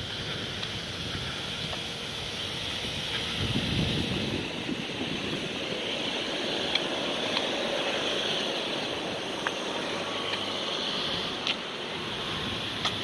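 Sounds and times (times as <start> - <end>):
distant traffic: 0.0 - 13.0
wind hiss: 0.0 - 13.0.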